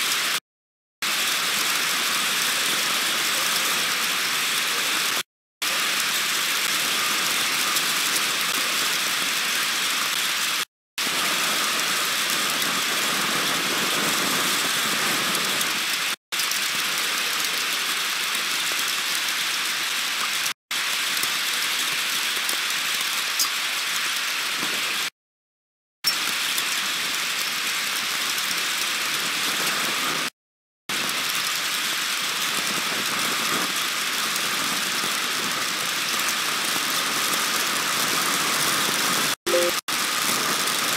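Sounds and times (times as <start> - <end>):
heavy rain hissing: 1.0 - 25.1, 30.9 - 40.9.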